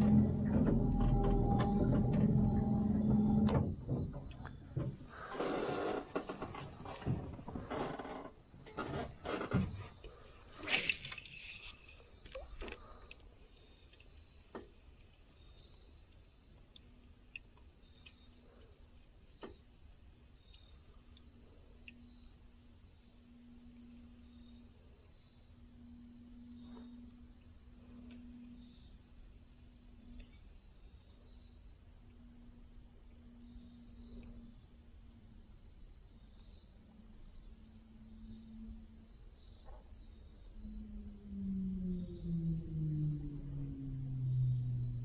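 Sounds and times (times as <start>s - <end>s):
faint insect drone: 0.0s - 45.0s
faint low hum: 0.0s - 45.0s.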